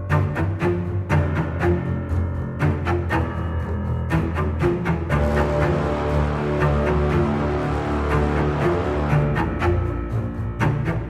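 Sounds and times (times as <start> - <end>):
low bass notes: 0.0 - 11.0.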